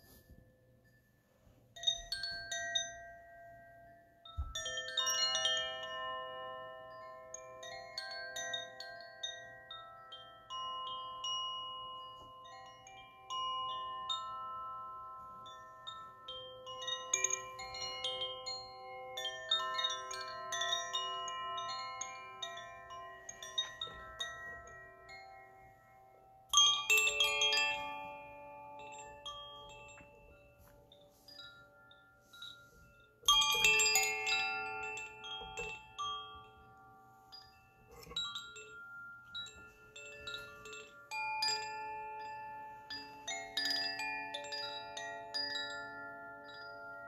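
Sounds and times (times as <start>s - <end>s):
wooden wind chimes ringing: 0.0s - 47.0s.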